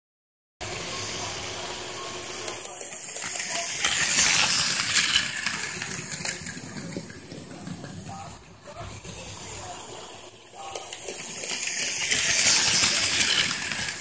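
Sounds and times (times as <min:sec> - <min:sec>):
toy train motor whirring: 0:00.6 - 0:14.0
toy train wheels clattering: 0:00.7 - 0:14.0.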